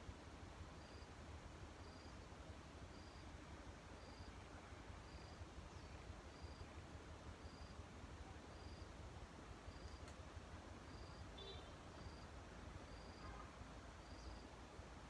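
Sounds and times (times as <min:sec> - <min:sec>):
low background hiss: 0:00.0 - 0:15.0
faint high insect chirp: 0:00.1 - 0:15.0.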